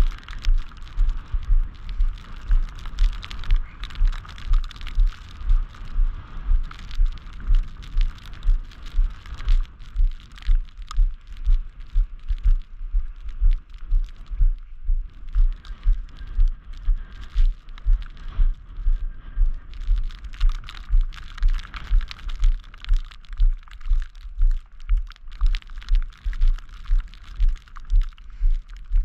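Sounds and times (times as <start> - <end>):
footsteps crunching on snow: 0.0 - 29.0.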